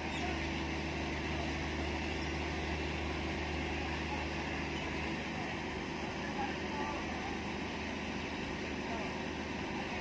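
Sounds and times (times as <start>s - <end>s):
crane diesel engine humming: 0.0s - 10.0s.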